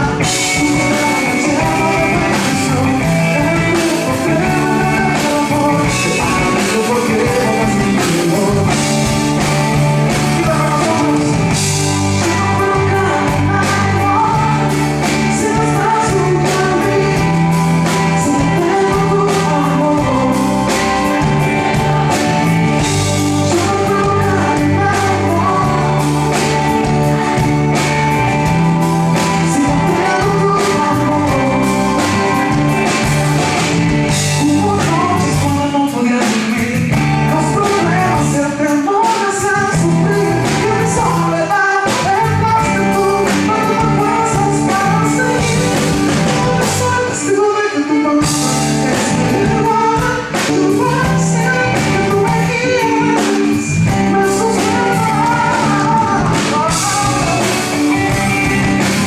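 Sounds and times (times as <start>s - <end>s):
man singing into a microphone: 0.0s - 26.9s, 28.4s - 33.2s, 34.1s - 59.0s
drums: 0.0s - 59.0s
electric bass: 0.0s - 59.0s
keyboard: 0.0s - 59.0s.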